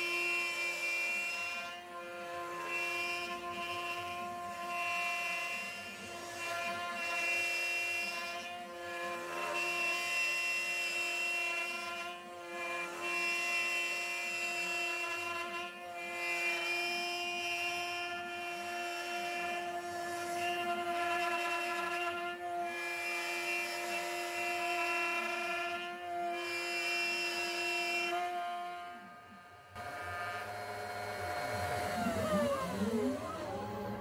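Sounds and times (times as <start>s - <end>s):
router bit cutting wood: 0.0s - 34.0s
router spindle motor whining: 0.0s - 34.0s.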